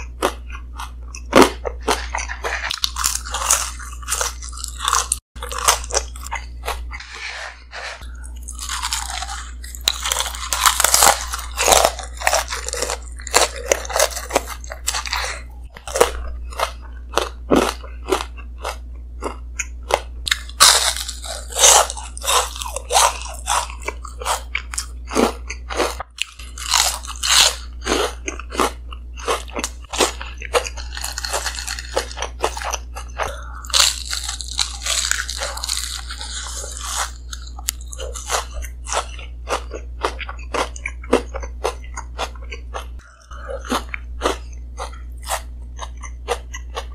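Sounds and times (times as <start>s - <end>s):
crunching bites of fried fish: 0.0s - 7.0s, 8.2s - 46.9s
steady low hum: 0.0s - 46.9s
wet chewing: 8.0s - 46.9s.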